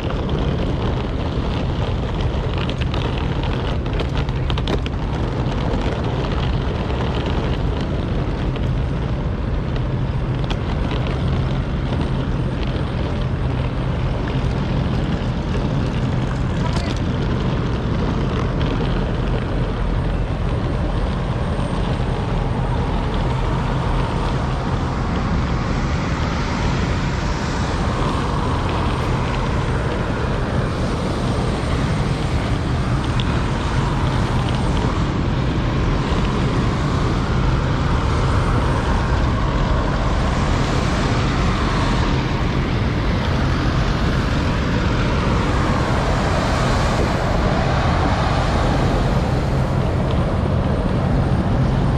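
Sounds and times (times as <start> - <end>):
propeller aircraft engines droning: 0.0 - 51.9.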